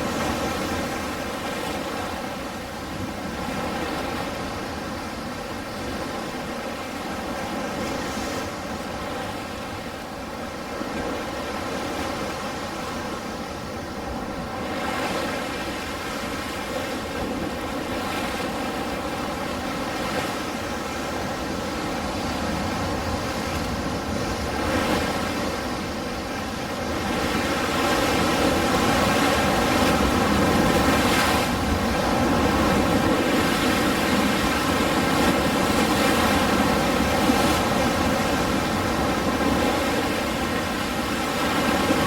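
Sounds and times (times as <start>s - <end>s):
ocean waves washing: 0.0s - 42.0s.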